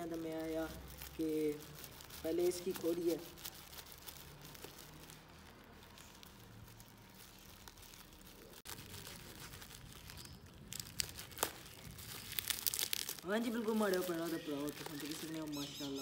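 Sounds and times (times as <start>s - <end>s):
plastic wrapping crinkling and tearing: 0.0s - 16.0s.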